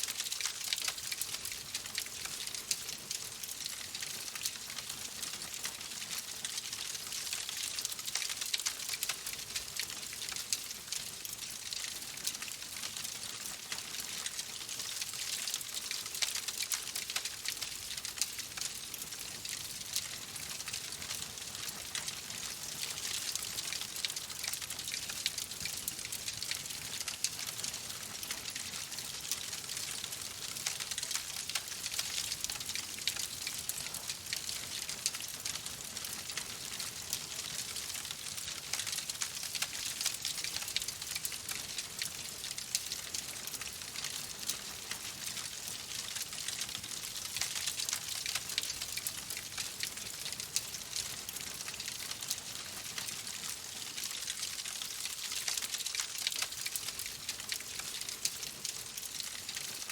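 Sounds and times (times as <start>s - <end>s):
wood fire crackling: 0.1s - 59.8s.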